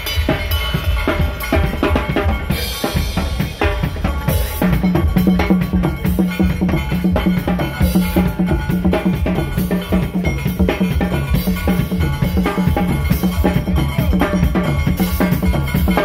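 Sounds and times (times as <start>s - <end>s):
bass: 0.0s - 16.0s
drum kit beat: 0.0s - 16.0s.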